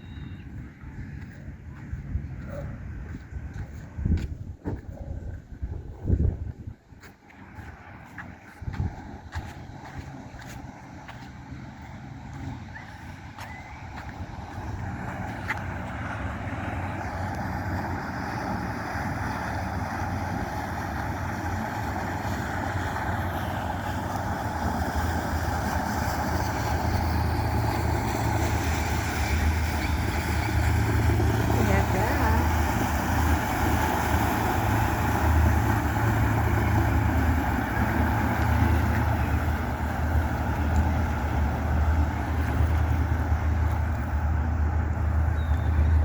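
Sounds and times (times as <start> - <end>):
engine humming: 0.0 - 46.0.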